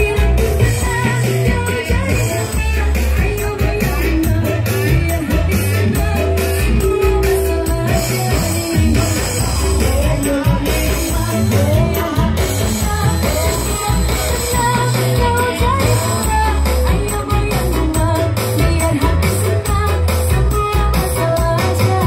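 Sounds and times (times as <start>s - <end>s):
pop music with singer: 0.0s - 22.0s.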